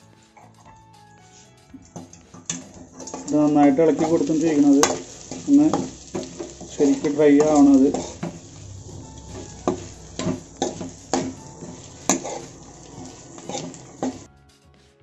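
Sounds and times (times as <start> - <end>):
low sizzle: 1.7 - 14.3
metal spoon scraping wok: 1.8 - 14.3.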